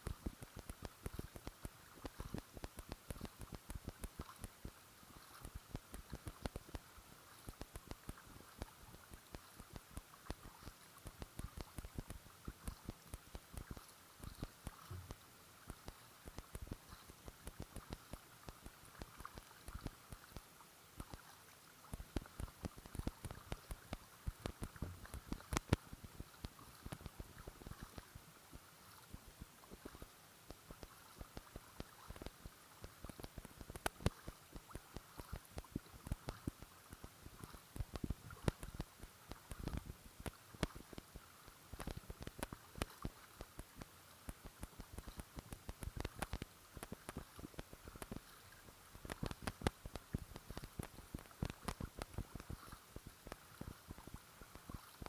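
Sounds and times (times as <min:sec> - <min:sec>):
water dripping from paddle: 0:00.0 - 0:55.0
water lapping against hull: 0:00.0 - 0:55.0.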